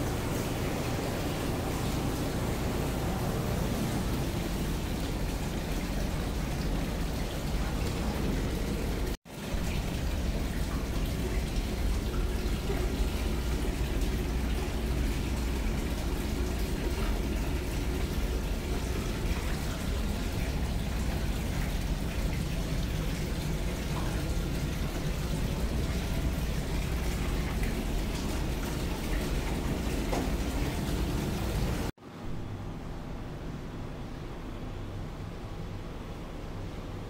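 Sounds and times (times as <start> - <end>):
water splashing into bath: 0.0 - 31.9
low steady rumble: 0.0 - 37.0.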